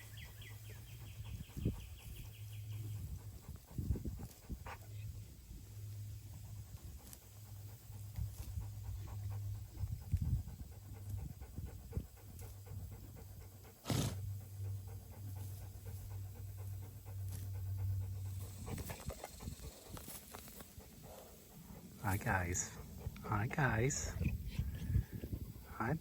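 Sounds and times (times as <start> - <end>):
dog panting: 0.0 - 26.0
steady low hum: 0.0 - 26.0.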